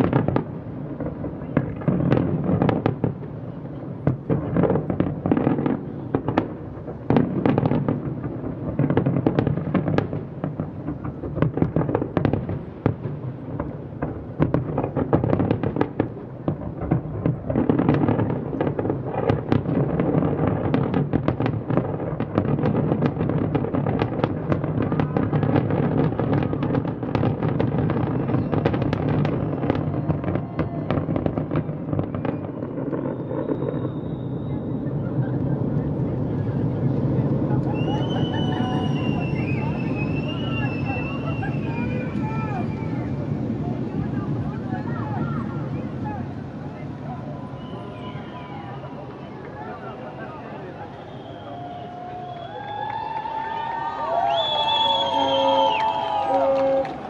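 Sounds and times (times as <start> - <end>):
fireworks bangs and pops: 0.0 - 57.0.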